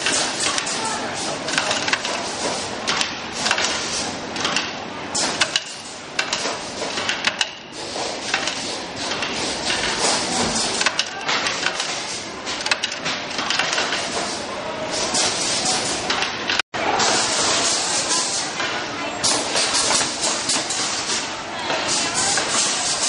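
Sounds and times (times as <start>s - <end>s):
machine clicks and knocks: 0.0s - 14.4s, 15.2s - 17.8s, 18.6s - 23.0s.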